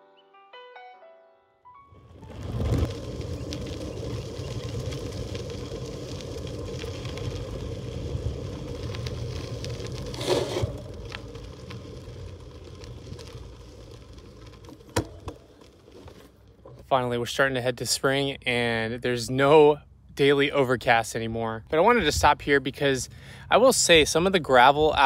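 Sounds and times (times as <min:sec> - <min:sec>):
bicycle tyres rolling on gravel: 0:01.9 - 0:25.0.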